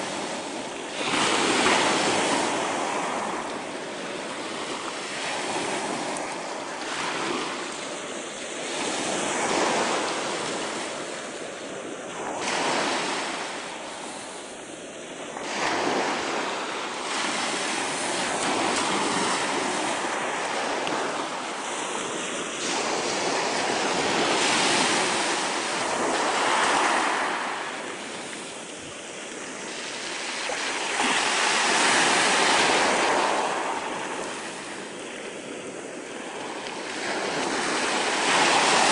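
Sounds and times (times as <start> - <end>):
surf washing up pebble beach: 0.0 - 38.9.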